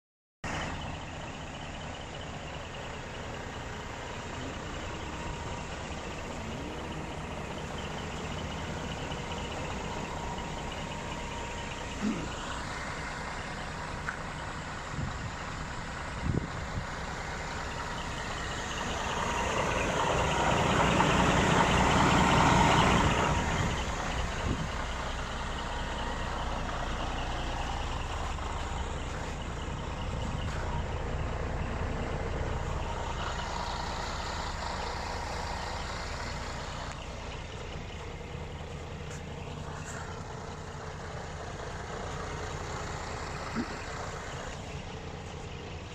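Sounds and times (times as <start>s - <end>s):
truck diesel engine idling: 0.4s - 45.9s.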